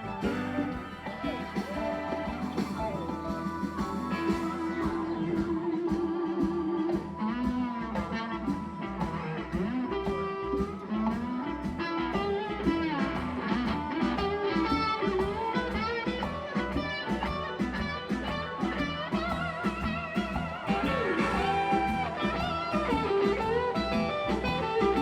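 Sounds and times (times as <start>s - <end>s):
bass: 0.0s - 25.0s
electric guitar lead: 0.0s - 25.0s
steady drum beat: 0.0s - 25.0s.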